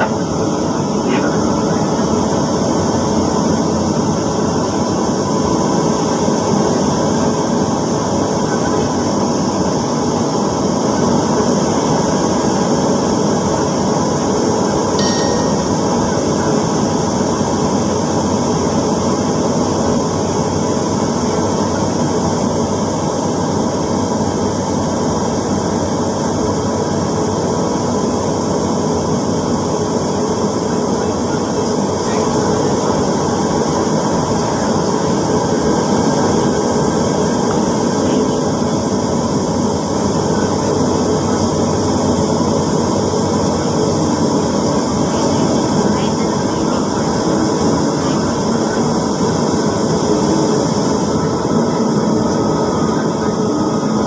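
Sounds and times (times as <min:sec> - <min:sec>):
constant train hum: 0:00.0 - 0:54.0.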